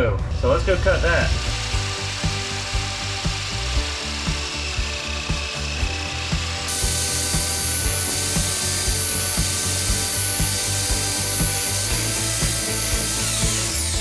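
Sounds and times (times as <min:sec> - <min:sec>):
miter saw whining: 0:00.8 - 0:14.0
saw blade cutting wood: 0:00.9 - 0:14.0.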